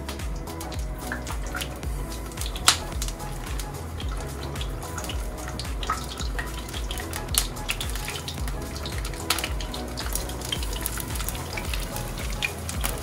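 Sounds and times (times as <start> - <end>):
background music with low beat: 0.0 - 13.0
chicken sizzling in hot oil: 0.4 - 13.0.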